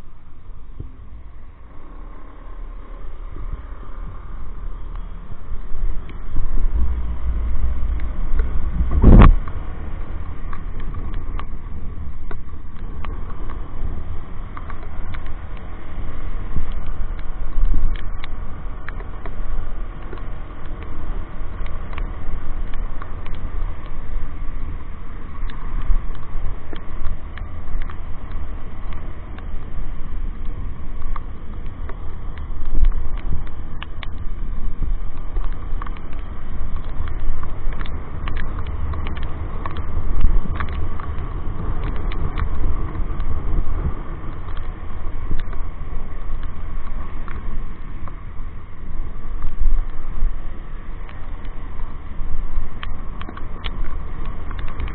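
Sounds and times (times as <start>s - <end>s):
wind and road noise: 0.0s - 54.9s
small ticks: 3.0s - 54.9s.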